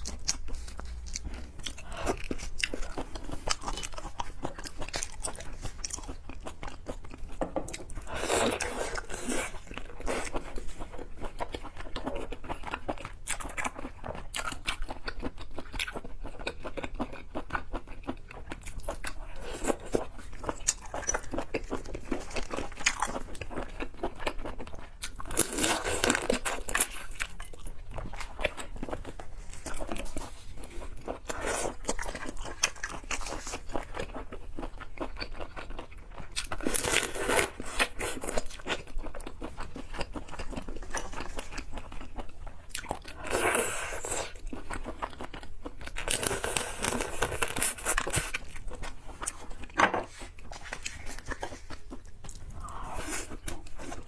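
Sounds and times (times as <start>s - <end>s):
person chewing crunchy seafood: 0.0s - 54.0s.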